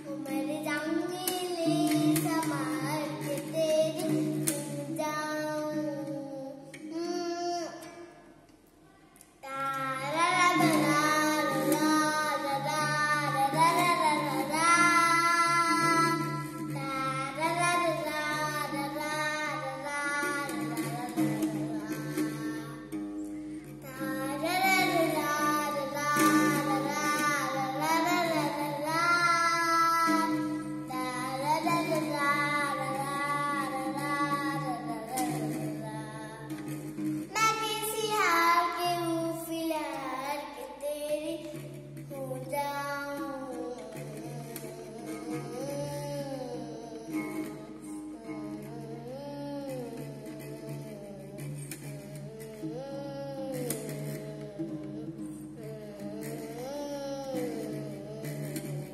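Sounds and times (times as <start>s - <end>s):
girl singing: 0.0s - 58.9s.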